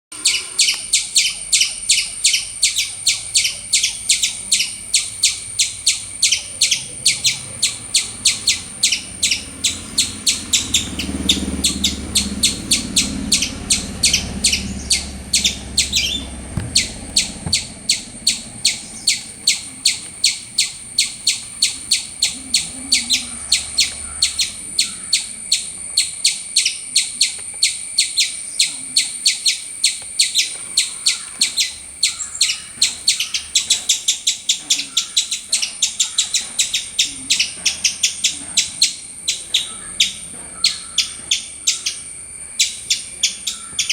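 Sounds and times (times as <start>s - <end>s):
squirrel chirping: 0.1s - 43.9s.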